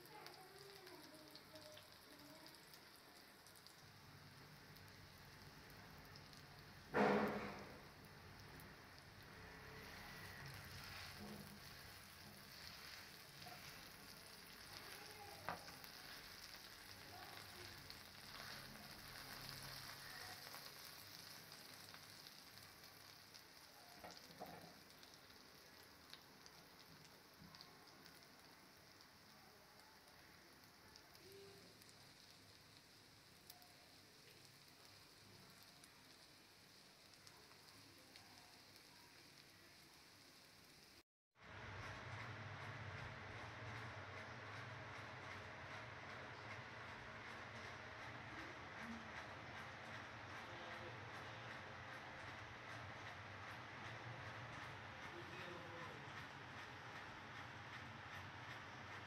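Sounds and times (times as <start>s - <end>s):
faint sizzling in oil: 0.0s - 43.2s, 44.3s - 59.0s.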